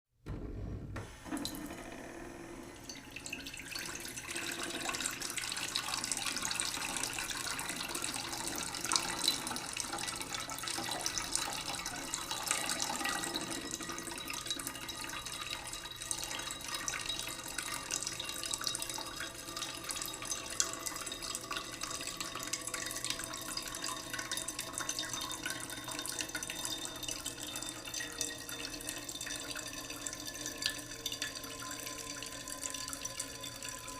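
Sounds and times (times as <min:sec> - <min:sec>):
tap water filling a pot: 0:02.8 - 0:33.9.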